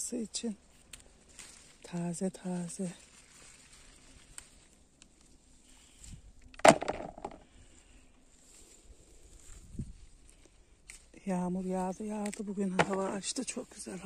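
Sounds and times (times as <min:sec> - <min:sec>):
plants rustling: 0:00.0 - 0:14.0.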